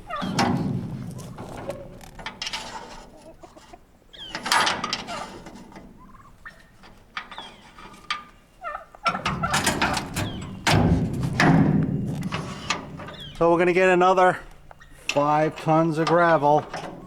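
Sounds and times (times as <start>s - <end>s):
poultry clucking: 0.0s - 17.0s.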